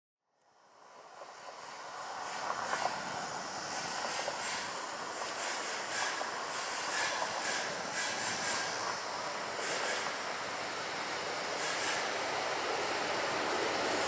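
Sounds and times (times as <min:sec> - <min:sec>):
passenger train rushing on rails: 0:00.7 - 0:14.0.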